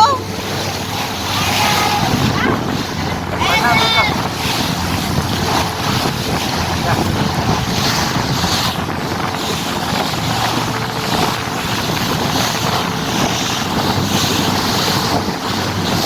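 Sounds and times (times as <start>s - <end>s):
boat engine hum: 0.0s - 16.0s
rushing water: 0.0s - 16.0s
wind buffeting microphone: 0.0s - 16.0s.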